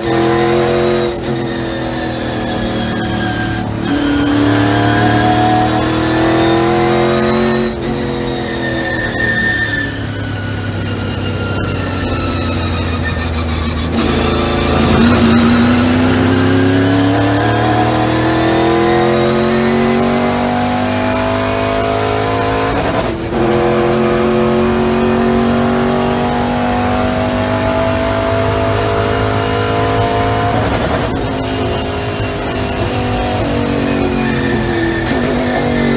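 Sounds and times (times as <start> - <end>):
race car engine accelerating: 0.0 - 35.9.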